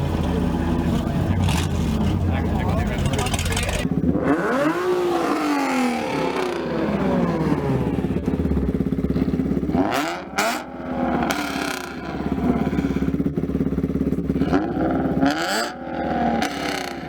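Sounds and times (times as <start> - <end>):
engine exhaust revving and idling: 0.0 - 17.0.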